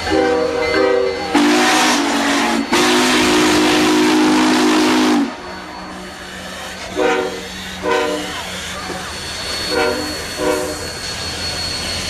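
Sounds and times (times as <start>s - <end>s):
steam hissing: 0.0s - 12.0s
steam locomotive whistle: 0.0s - 12.0s.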